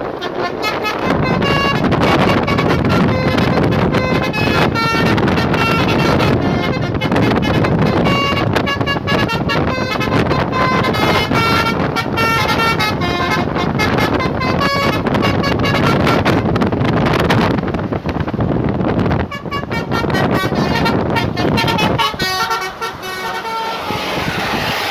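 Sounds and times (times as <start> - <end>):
bus horn playing a tune: 0.0 - 24.9.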